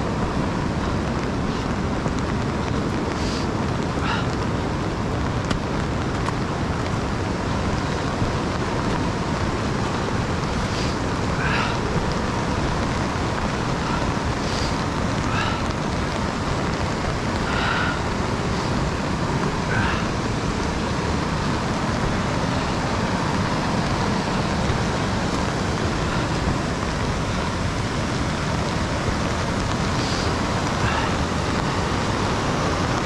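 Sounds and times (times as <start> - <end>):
river rapids rushing: 0.0 - 33.0.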